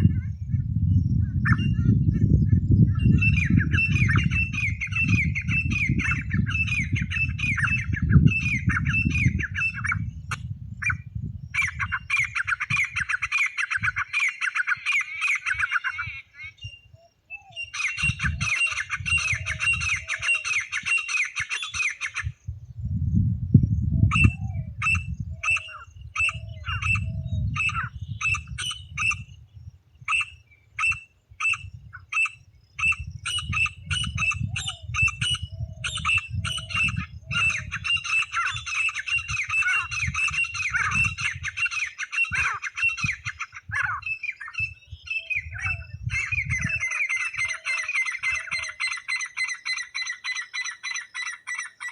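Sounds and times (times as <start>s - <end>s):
francolin calling: 0.0s - 22.5s, 24.0s - 51.9s.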